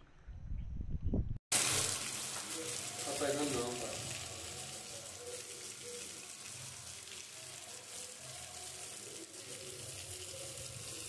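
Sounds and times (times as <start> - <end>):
rain on a paved street: 1.5 - 11.0
water running off a surface: 1.5 - 11.0.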